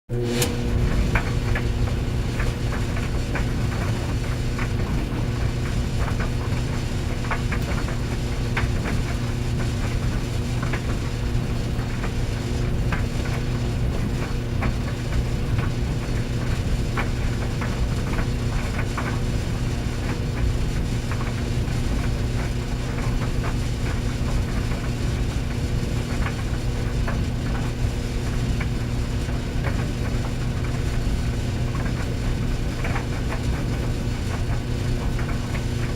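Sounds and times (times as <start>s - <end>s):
clothes dryer motor hum: 0.1s - 35.9s
dryer drum rumbling: 0.1s - 35.9s.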